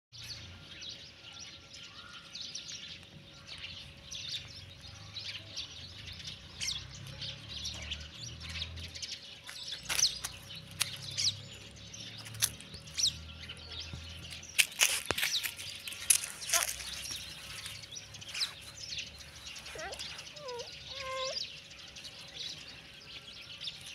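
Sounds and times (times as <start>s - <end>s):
small birds chirping: 0.2s - 23.9s.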